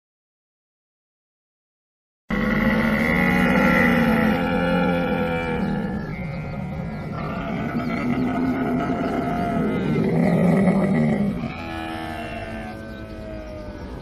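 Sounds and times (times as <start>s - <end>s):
camel groaning bellows: 2.3s - 14.0s.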